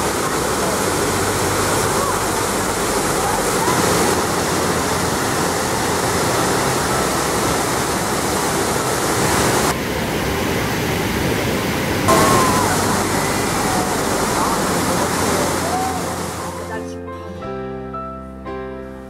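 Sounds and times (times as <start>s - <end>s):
waterfall and rapids roaring: 0.0s - 16.9s.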